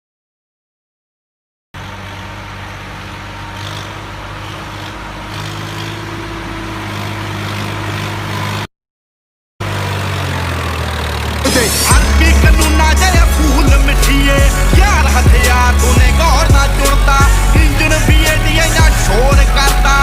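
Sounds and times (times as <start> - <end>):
model tractor engine drone: 1.8 - 8.7, 9.6 - 20.0.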